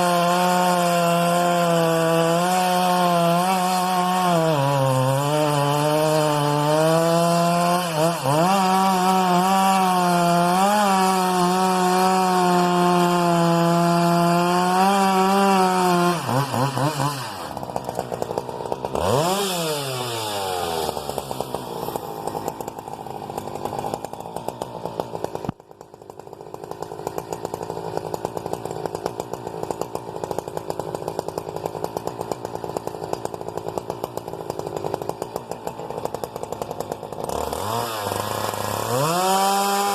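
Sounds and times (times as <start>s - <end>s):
chainsaw cutting wood: 0.0s - 39.9s
chainsaw rattling idle: 0.0s - 39.9s.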